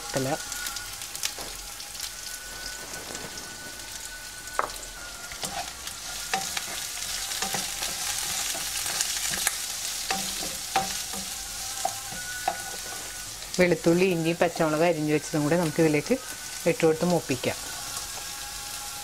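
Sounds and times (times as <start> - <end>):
shallots sizzling in hot oil: 0.0 - 19.0
spatula scraping a pan: 0.5 - 14.8, 17.4 - 19.0.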